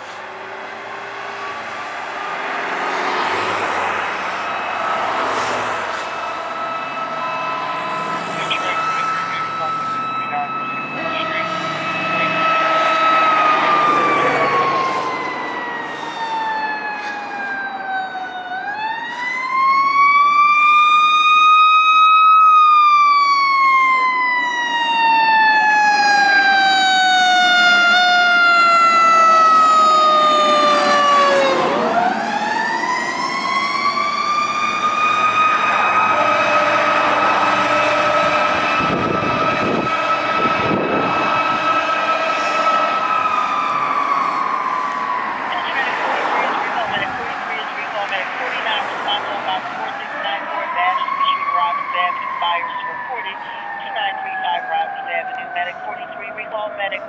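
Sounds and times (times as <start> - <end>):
fire engine siren wailing: 0.0 - 57.0.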